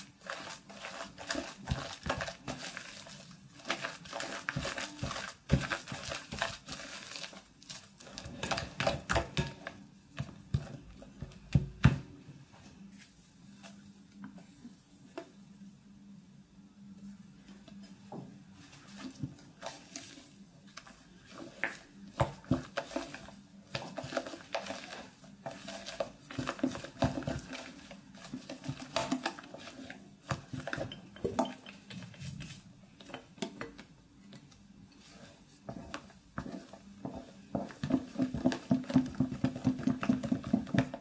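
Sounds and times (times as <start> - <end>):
wet stirring: 0.0 - 12.0, 18.6 - 41.0.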